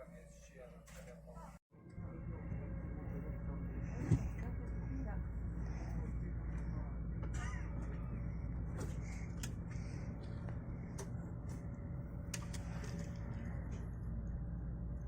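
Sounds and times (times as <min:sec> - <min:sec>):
train carriage rumble: 0:00.0 - 0:14.9
faint steady hum: 0:00.0 - 0:15.0.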